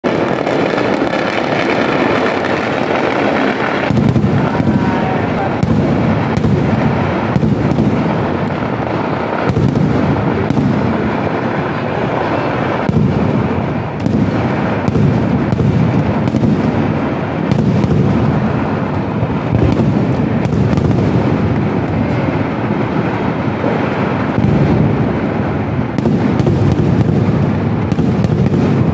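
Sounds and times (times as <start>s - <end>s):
fireworks bangs and cracks: 0.0s - 28.9s.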